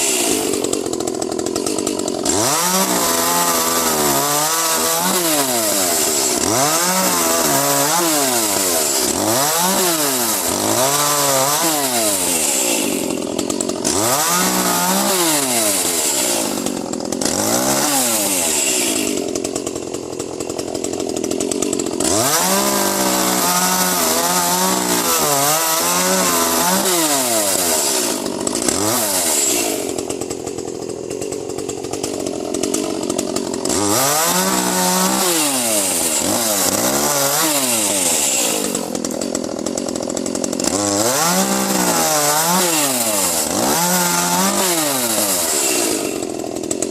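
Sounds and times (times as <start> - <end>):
chainsaw revving while cutting: 0.0 - 46.9.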